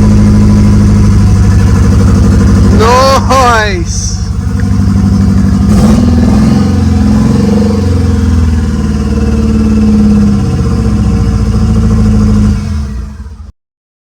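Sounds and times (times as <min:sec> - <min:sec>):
car engine running rough: 0:00.0 - 0:13.5.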